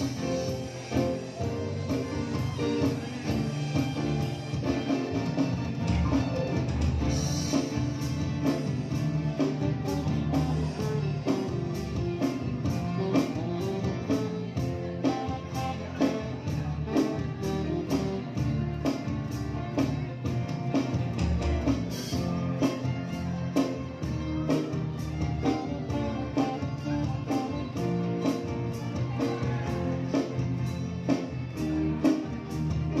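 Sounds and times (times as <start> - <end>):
bass: 0.0 - 33.0
guitar: 0.0 - 33.0
keyboard: 0.0 - 33.0
violins: 0.0 - 33.0.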